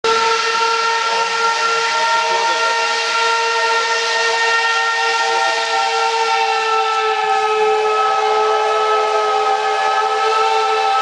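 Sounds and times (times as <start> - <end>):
steam locomotive whistle: 0.0 - 11.0.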